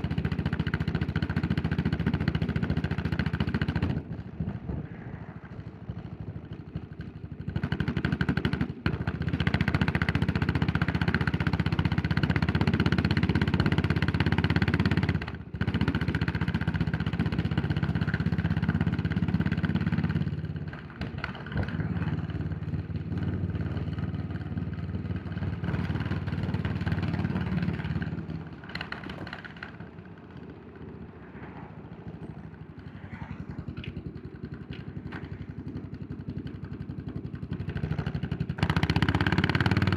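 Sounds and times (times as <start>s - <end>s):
motorcycle engine pulling: 7.1s - 39.9s.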